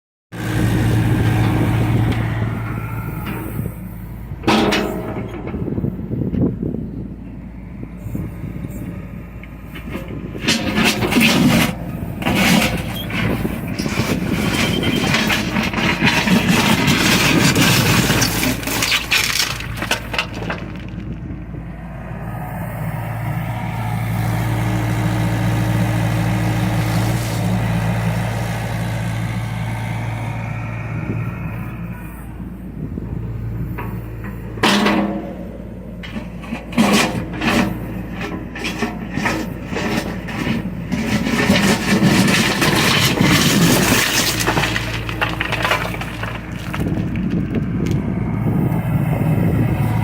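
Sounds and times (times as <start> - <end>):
diesel engine running: 0.3 - 50.0
excavator scraping and knocking: 0.4 - 6.9, 8.0 - 50.0.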